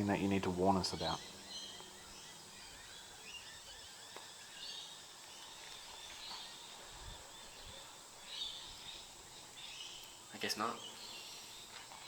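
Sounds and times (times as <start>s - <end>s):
low outdoor hiss: 0.0s - 12.0s.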